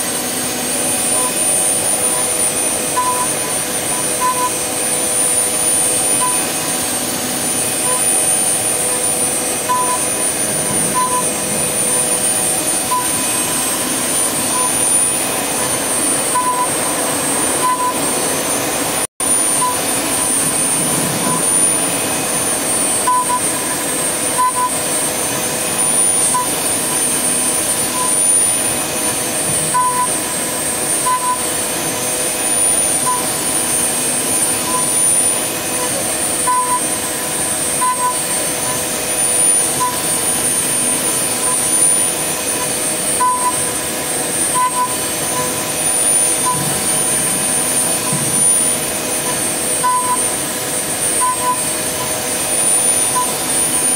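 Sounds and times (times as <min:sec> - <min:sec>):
wood lathe whine and cutting: 0:00.0 - 0:53.9.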